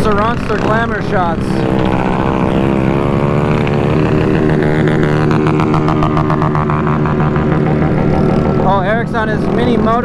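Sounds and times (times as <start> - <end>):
mini bike engine running: 0.0 - 10.0.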